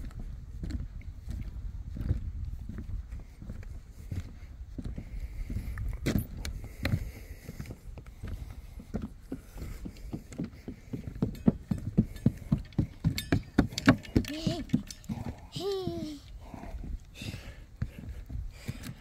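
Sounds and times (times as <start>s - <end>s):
footsteps on wooden boardwalk: 0.0s - 19.0s.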